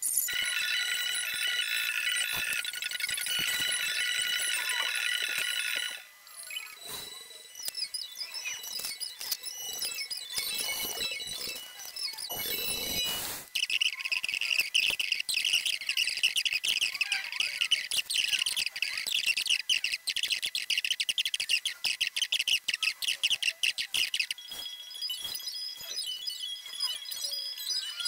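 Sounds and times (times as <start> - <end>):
small birds chirping rapidly: 1.5 - 28.0.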